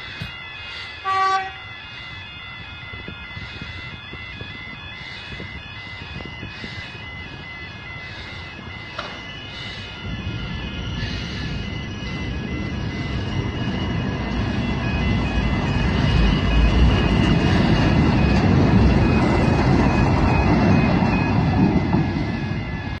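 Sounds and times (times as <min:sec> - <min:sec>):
crossing warning beeps: 0:00.0 - 0:23.0
train rumbling past: 0:00.0 - 0:23.0.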